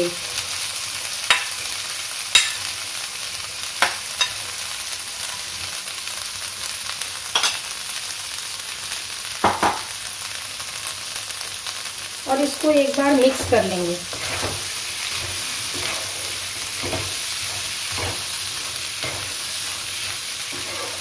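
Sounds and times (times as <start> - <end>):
chickpeas sizzling in hot oil: 0.0 - 21.0.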